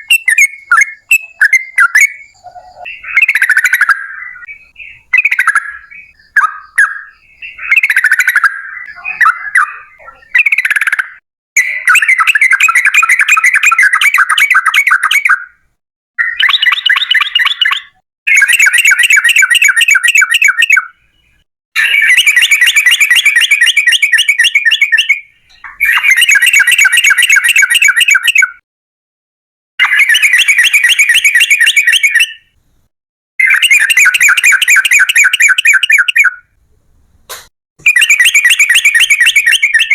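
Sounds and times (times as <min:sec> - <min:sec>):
bulbul song: 0:00.0 - 0:15.6, 0:16.2 - 0:28.6, 0:29.8 - 0:32.6, 0:33.4 - 0:36.6, 0:37.8 - 0:39.9.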